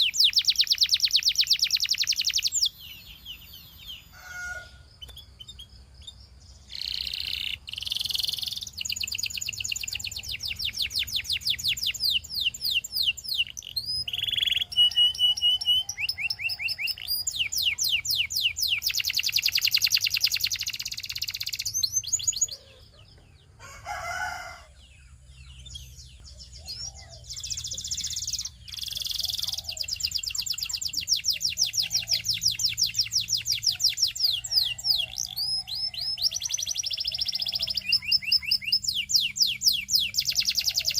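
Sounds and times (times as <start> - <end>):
canary singing in fast trills: 0.0 - 40.9.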